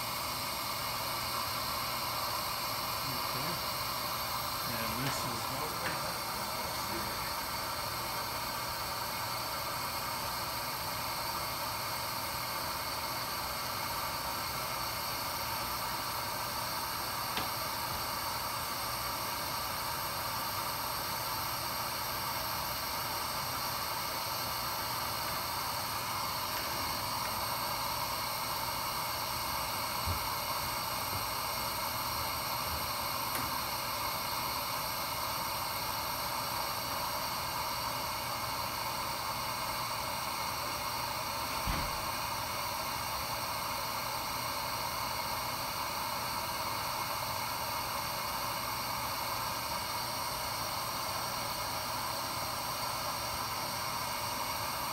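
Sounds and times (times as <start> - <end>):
faint machine hum: 0.0 - 44.3
hot gas hissing: 0.0 - 54.9.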